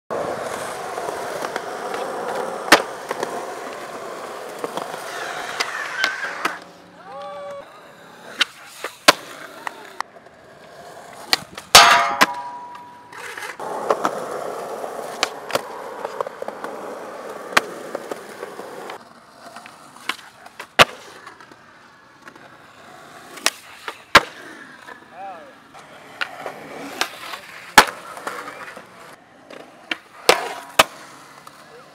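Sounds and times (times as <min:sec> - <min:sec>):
skateboard wheels rolling on concrete: 0:00.1 - 0:31.9
skateboard pops and clacks: 0:00.2 - 0:07.6, 0:08.3 - 0:10.1, 0:11.1 - 0:14.4, 0:15.0 - 0:21.6, 0:23.3 - 0:25.0, 0:26.2 - 0:31.6.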